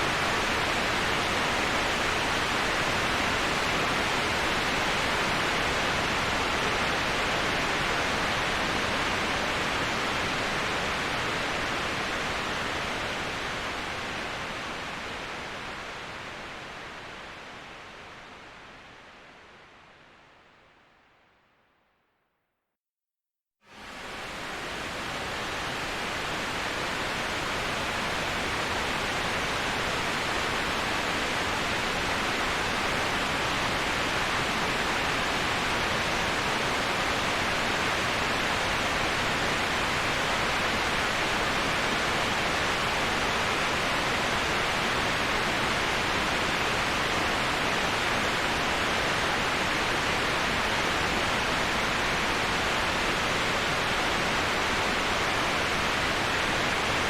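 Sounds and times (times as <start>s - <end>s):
rushing waterfall: 0.0s - 20.8s, 23.7s - 57.0s.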